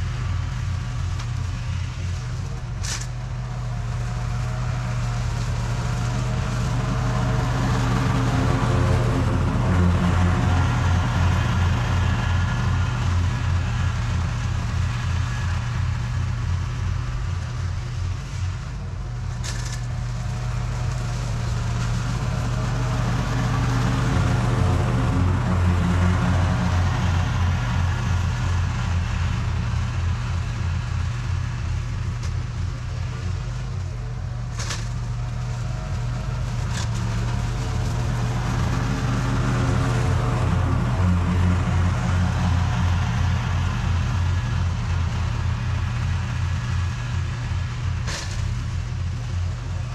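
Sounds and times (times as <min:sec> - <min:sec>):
lawn mower engine running: 0:00.0 - 0:49.9.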